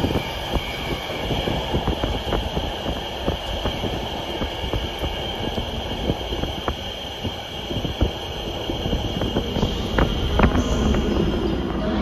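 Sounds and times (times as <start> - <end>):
wheels clicking and knocking: 0.0 - 10.5
train rumble: 0.0 - 12.0.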